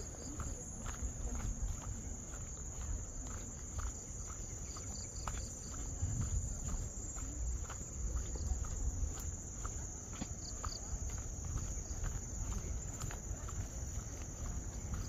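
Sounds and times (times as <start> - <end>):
footsteps: 0.0 - 15.0
insects droning: 0.0 - 15.0.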